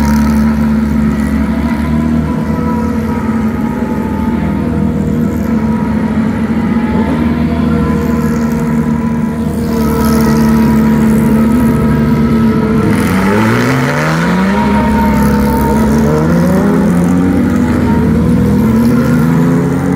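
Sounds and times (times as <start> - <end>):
engine revving up: 0.0 - 19.9
race car engines at low revs: 0.0 - 19.9.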